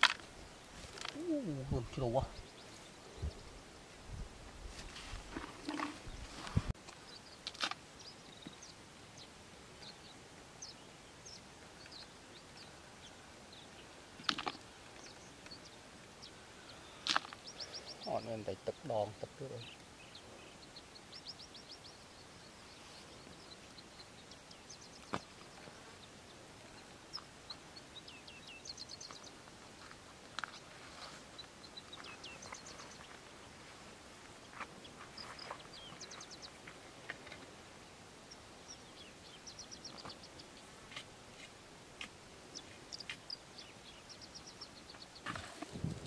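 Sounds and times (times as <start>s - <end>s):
faint steady background hiss: 0.0s - 46.0s
small birds chirping: 0.0s - 46.0s.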